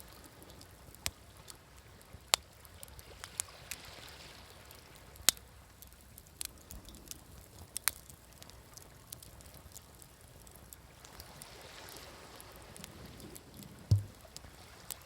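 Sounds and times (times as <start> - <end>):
faint sea waves: 0.0 - 15.0
wood fire crackling and popping: 0.0 - 15.0.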